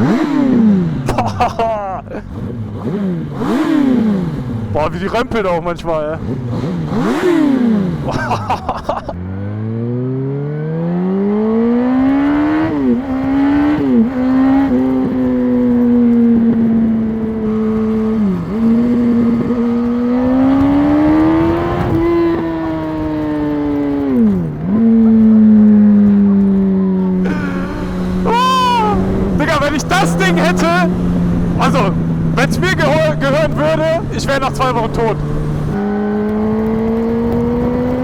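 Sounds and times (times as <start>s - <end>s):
motorcycle engine shifting gears: 0.0s - 38.0s.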